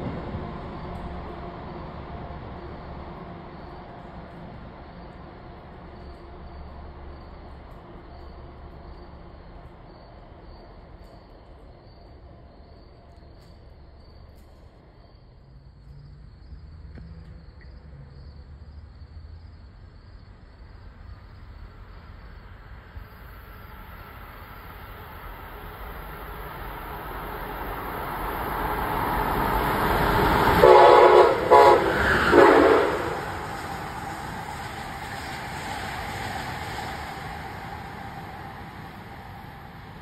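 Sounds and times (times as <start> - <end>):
low rumble of trains: 0.0 - 40.0.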